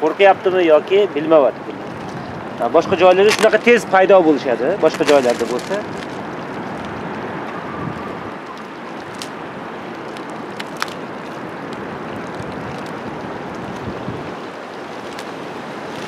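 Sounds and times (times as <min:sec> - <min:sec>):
water washing on shore: 0:00.0 - 0:16.0
wind: 0:00.0 - 0:16.0.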